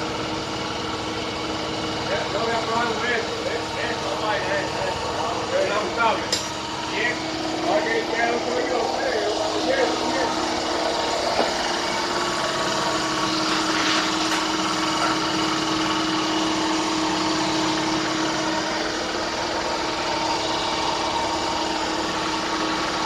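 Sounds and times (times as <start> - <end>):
electric power tool running: 4.0 - 23.0.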